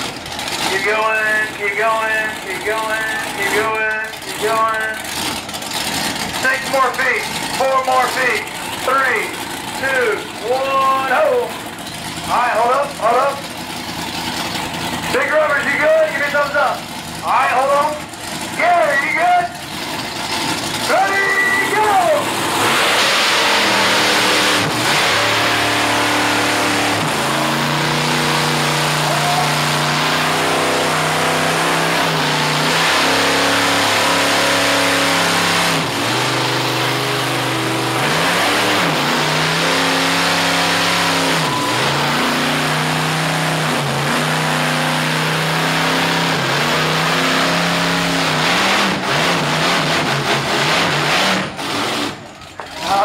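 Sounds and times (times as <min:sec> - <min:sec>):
truck engines running hard: 0:00.0 - 0:53.0.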